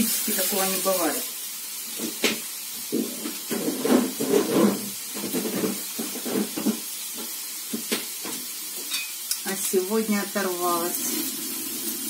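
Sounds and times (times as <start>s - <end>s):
pork fat sizzling in a frying pan: 0.0s - 12.0s.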